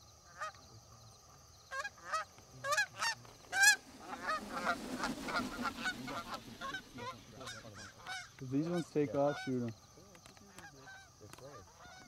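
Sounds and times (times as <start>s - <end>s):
geese honking: 1.7s - 12.0s.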